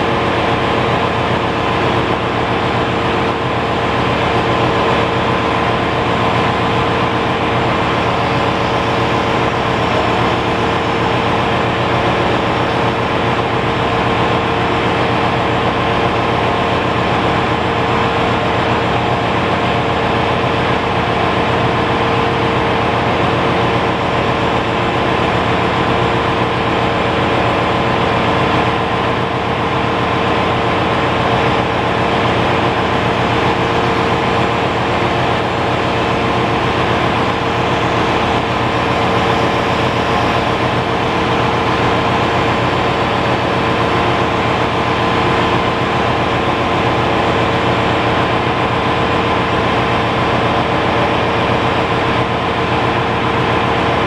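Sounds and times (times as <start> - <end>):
engine room machinery noise: 0.0 - 54.0.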